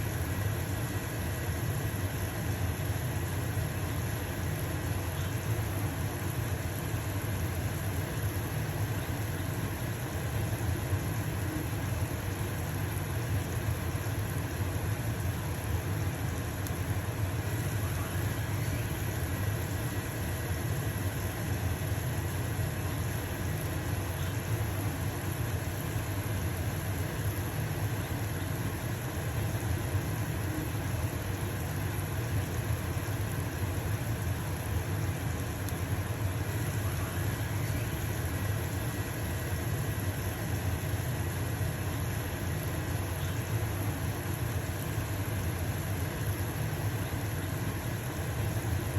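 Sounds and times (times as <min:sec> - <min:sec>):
pancake sizzling in a frying pan: 0:00.0 - 0:48.9
range hood fan humming: 0:00.0 - 0:48.9.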